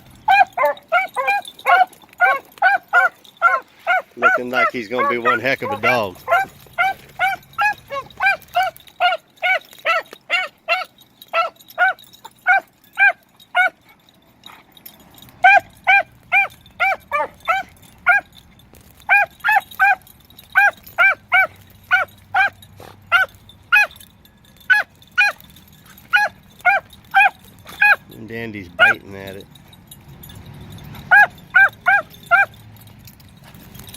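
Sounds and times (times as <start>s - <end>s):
dogs barking rapidly: 0.0s - 33.9s.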